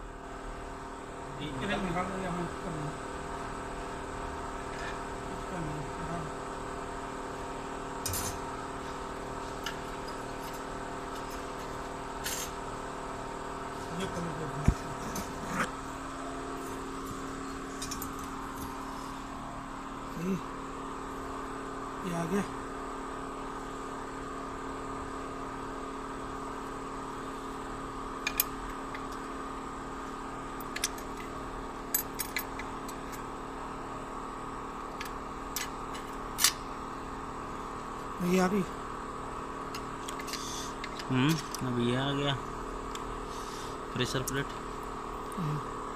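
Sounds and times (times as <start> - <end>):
steady mechanical hum: 0.0 - 45.9.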